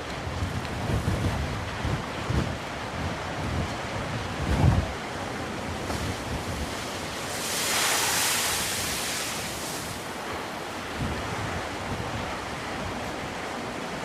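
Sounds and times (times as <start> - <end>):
waves washing onto shore: 0.0 - 14.0
wind buffeting microphone: 0.0 - 14.0.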